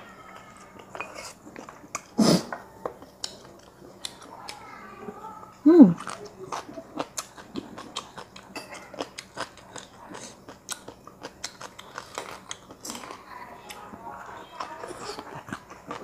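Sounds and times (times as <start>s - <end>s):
person chewing crunchy food: 0.3s - 2.2s, 2.8s - 4.6s, 5.9s - 16.0s.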